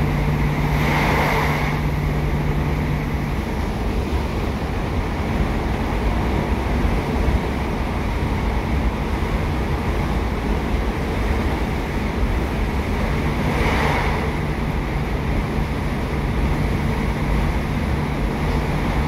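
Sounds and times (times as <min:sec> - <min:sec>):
train engine rumble: 0:00.0 - 0:19.0.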